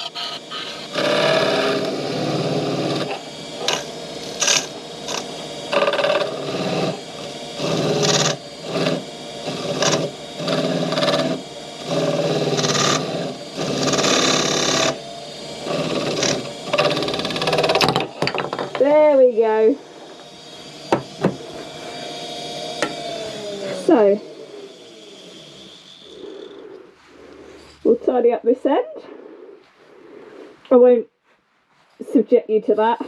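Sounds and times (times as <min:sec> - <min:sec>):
wood lathe running: 0:00.0 - 0:28.1
turning tool scraping wood: 0:00.0 - 0:32.8.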